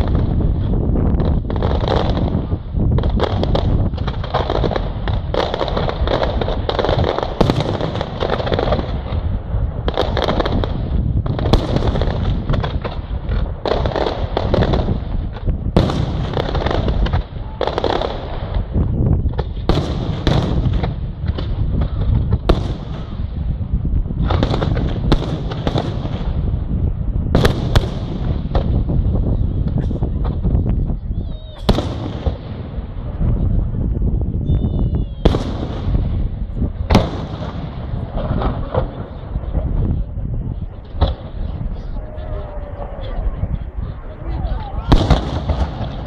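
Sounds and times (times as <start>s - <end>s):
fireworks bangs: 0.0s - 46.0s.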